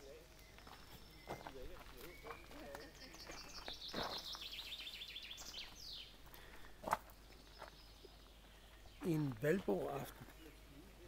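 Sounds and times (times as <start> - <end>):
small songbird singing: 0.0 - 11.0.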